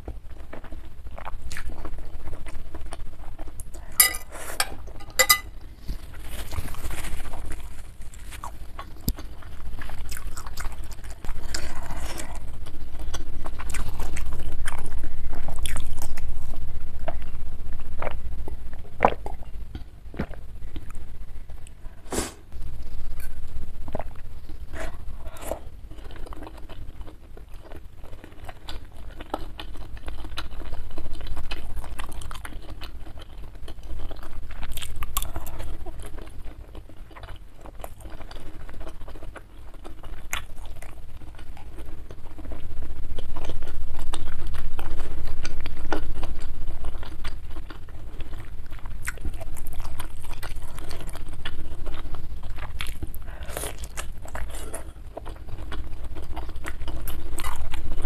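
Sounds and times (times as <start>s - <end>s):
chewing and wet mouth sounds: 0.0s - 22.0s, 22.8s - 58.0s.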